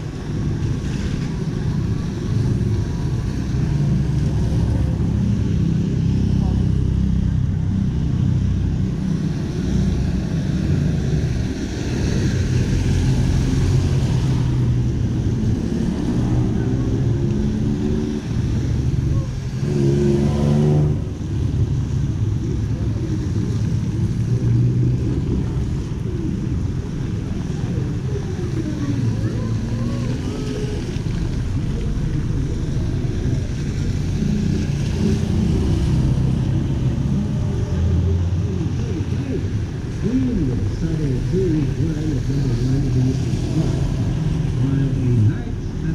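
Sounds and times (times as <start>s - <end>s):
tyres hissing on wet street: 0.0s - 45.9s
vehicle engine humming: 0.0s - 45.9s.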